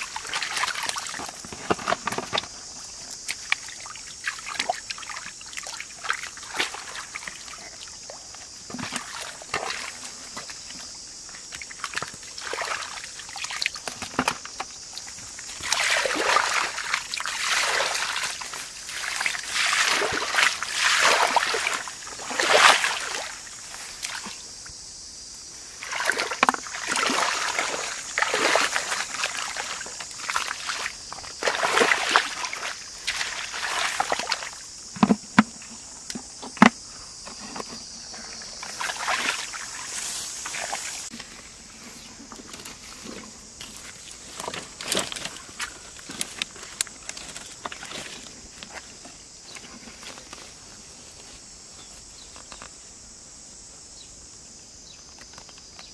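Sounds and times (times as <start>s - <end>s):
water sloshing and splashing: 0.0s - 24.7s, 25.7s - 50.6s.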